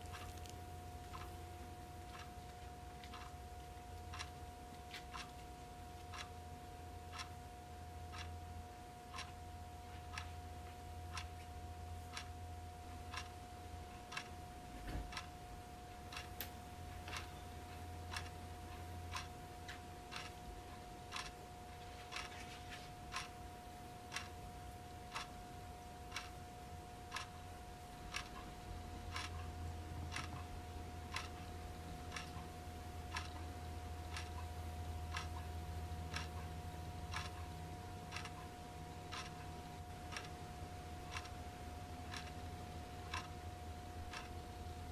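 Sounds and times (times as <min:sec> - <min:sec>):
low steady hum: 0:00.0 - 0:44.9
wall clock ticking: 0:00.0 - 0:44.9.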